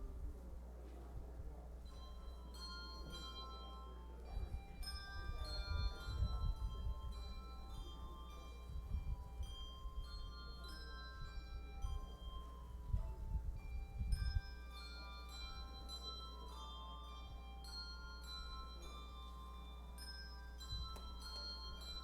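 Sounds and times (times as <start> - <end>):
tuned bells melody: 1.8 - 22.0.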